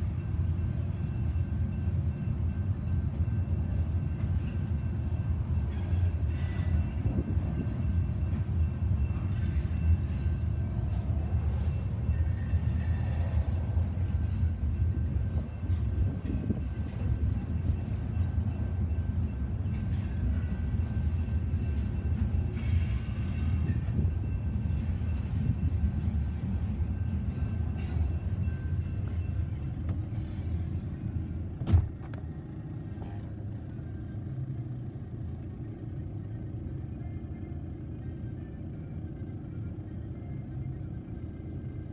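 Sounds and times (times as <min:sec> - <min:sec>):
faint steady tones: 0:00.0 - 0:41.9
freight train rumbling past: 0:00.0 - 0:41.9.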